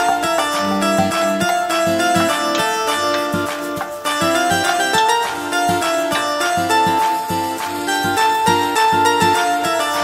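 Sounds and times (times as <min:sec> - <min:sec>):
instrumental tune over bass beat: 0:00.0 - 0:10.0.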